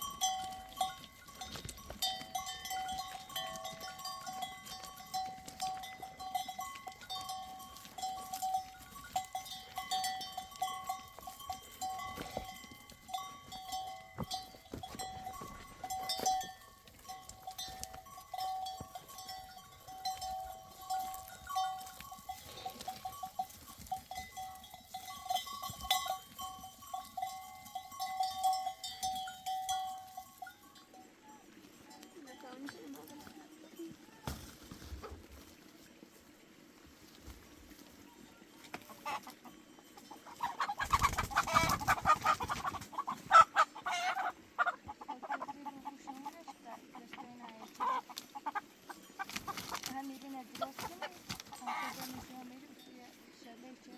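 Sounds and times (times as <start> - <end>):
goat and sheep bells clanking: 0.0 - 35.6, 37.8 - 53.9.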